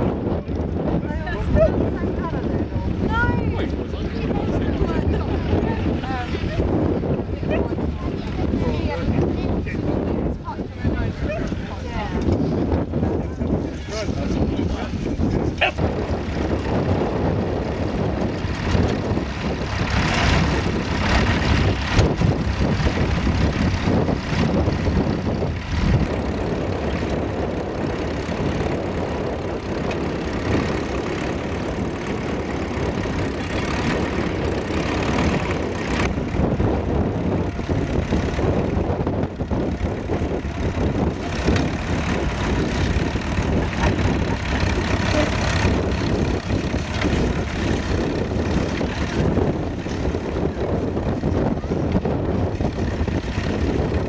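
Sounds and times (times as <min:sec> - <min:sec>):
tractor engines running under load: 0:00.0 - 0:54.0.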